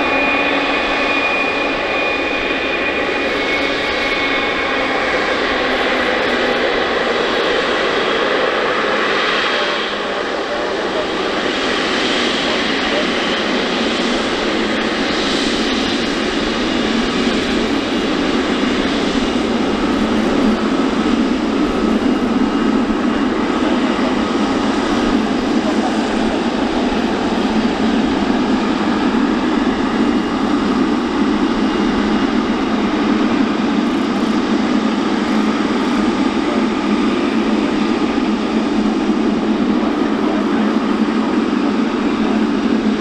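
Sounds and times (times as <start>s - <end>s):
jet engines taxiing: 0.0s - 43.0s.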